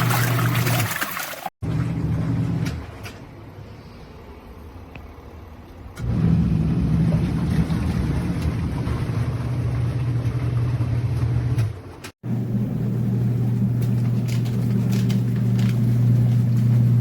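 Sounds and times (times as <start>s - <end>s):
washing machine motor humming: 0.0s - 3.6s, 4.7s - 17.0s.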